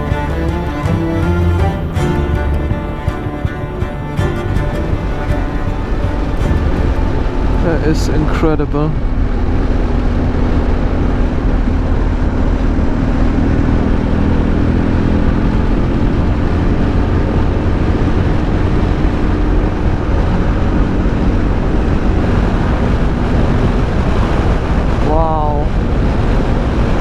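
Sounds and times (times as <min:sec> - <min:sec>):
motorcycle engine drone: 0:00.0 - 0:27.0
wind noise: 0:00.0 - 0:27.0.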